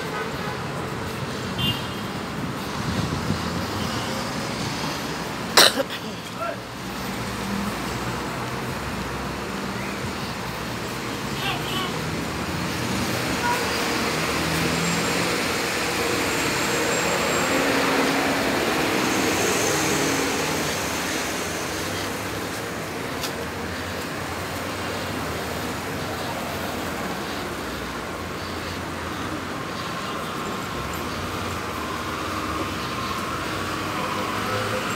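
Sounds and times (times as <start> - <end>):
road traffic passing: 0.0 - 34.9.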